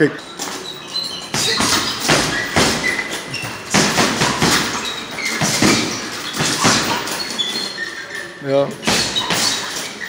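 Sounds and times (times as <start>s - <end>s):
boxer punching and footwork: 0.5s - 8.1s, 8.8s - 10.0s.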